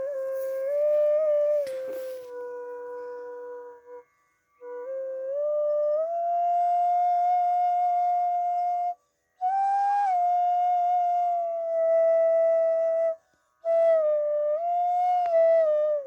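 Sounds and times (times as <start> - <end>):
flute playing slow melody: 0.0 - 16.0.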